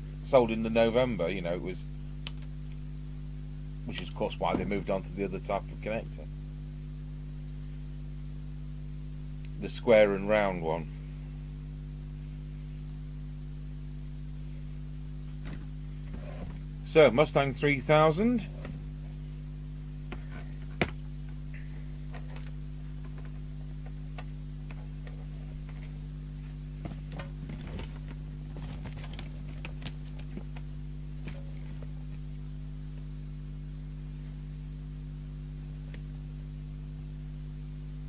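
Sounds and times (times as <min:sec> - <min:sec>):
low mains hum: 0:00.0 - 0:38.0.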